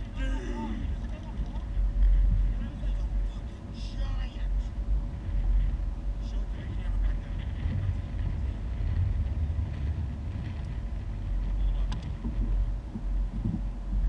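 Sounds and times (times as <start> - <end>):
boat engine low rumble: 0.0 - 14.0
faint steady hum: 0.0 - 14.0.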